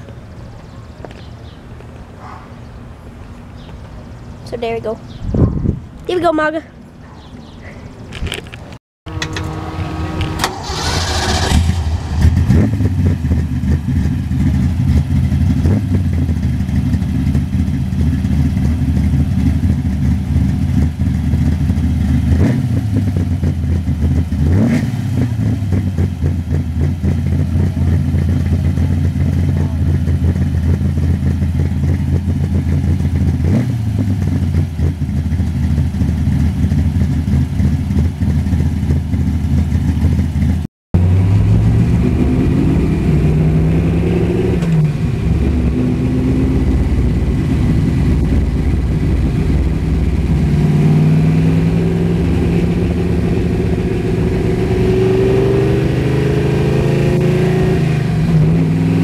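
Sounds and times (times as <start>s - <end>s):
vehicle engine idling: 6.6s - 24.3s, 26.1s - 33.4s, 34.1s - 56.8s
engine revving: 9.1s - 39.2s, 41.0s - 59.0s.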